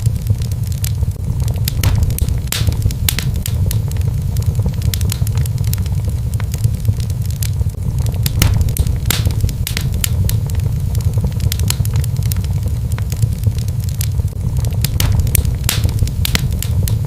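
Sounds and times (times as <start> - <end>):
flames rumbling: 0.0 - 17.0
wood fire crackling and popping: 0.0 - 17.0.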